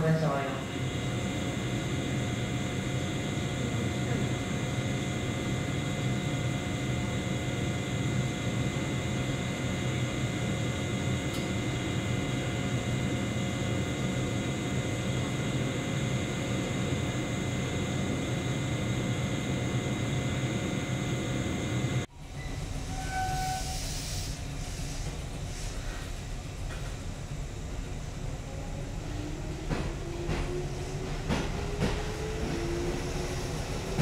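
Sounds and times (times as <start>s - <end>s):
electric train equipment humming: 0.0s - 34.0s.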